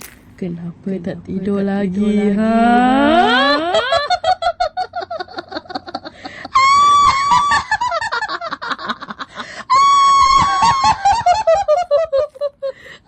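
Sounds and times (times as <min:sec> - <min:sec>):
ghostly cackling laugh: 0:02.0 - 0:13.0.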